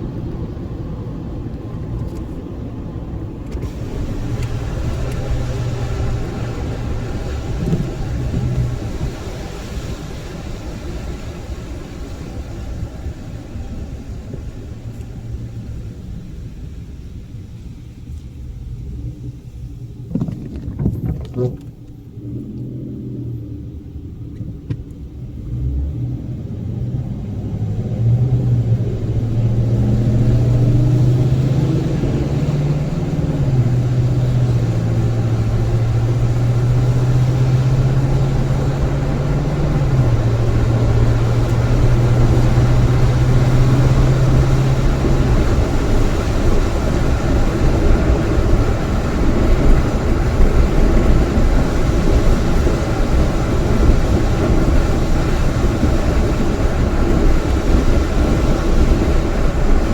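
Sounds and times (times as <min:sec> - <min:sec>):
vehicle engine: 0:00.0 - 0:59.9.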